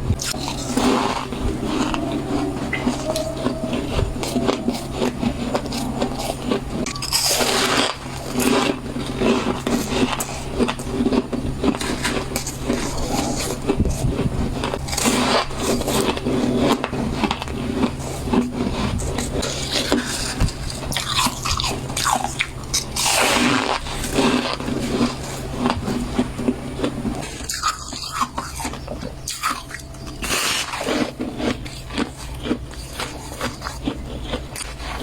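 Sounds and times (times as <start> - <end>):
frost crunching: 0.0 - 35.0.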